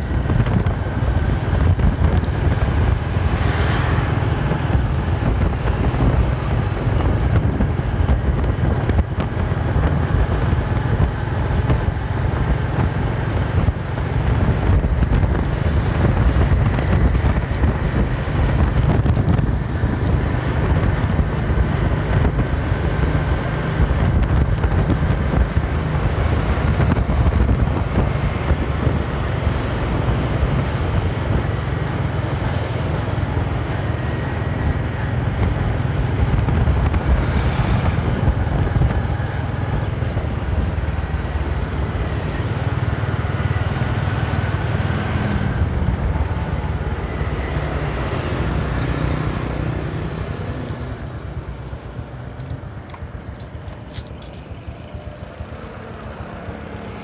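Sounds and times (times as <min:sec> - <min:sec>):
road and traffic noise: 0:00.0 - 0:57.0
wind rumble on microphone: 0:00.0 - 0:57.0.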